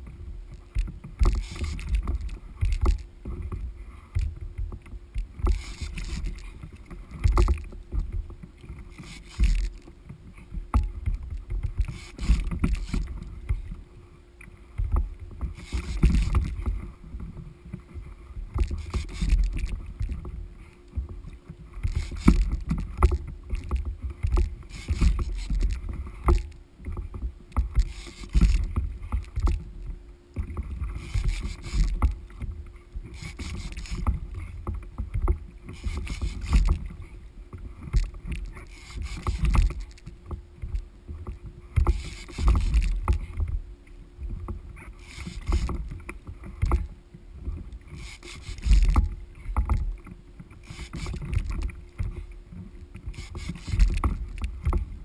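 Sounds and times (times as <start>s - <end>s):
water splashing against kayak hull: 0.0s - 55.0s
wind rumble on microphone: 0.0s - 55.0s.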